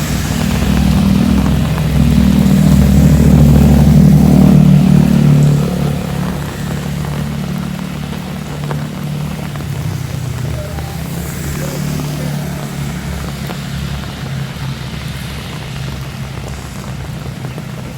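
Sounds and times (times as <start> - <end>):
heavy rain hiss: 0.0 - 17.9
vehicle engine running: 0.0 - 17.9.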